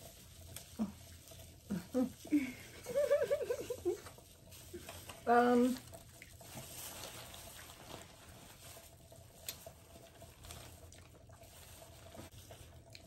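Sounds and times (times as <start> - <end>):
wet food handling in plastic bags: 0.0 - 13.0.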